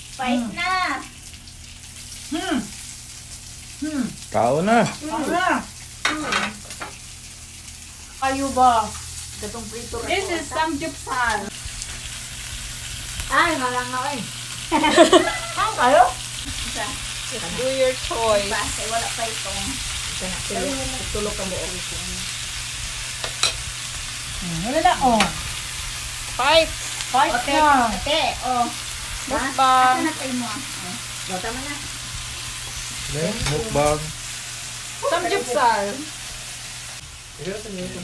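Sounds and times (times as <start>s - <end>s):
food sizzling on grill pan: 0.0s - 38.0s.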